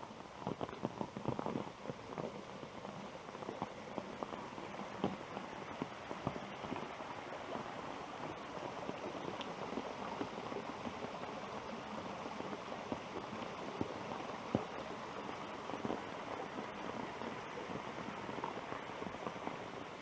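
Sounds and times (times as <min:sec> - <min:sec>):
rain on foliage: 0:00.0 - 0:20.0
water running down channel: 0:00.0 - 0:20.0
water drips: 0:03.3 - 0:20.0.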